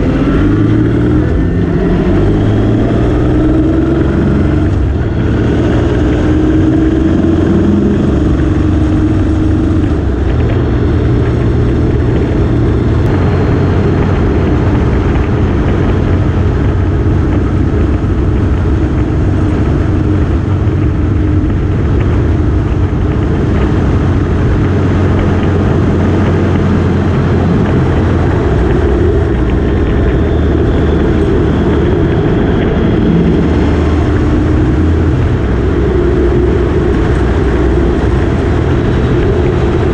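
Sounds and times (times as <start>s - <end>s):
motorcycle engine running: 0.0s - 39.9s
wide rushing noise: 0.0s - 39.9s.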